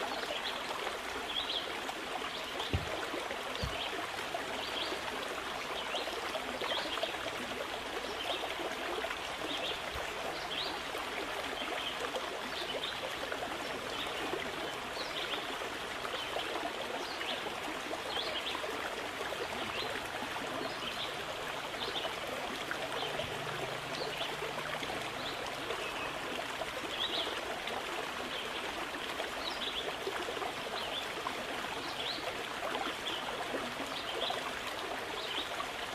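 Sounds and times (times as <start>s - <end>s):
stream water flowing: 0.0s - 35.9s.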